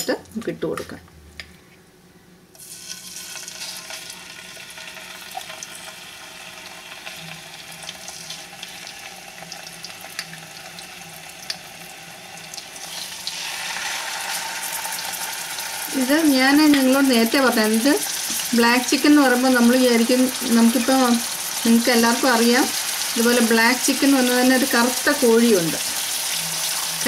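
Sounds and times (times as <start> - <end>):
chicken sizzling in hot oil: 2.6 - 27.0.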